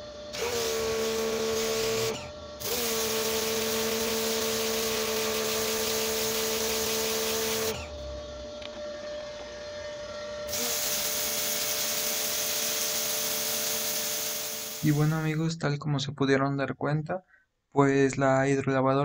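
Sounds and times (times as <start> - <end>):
pressure washer motor whining: 0.0 - 15.2.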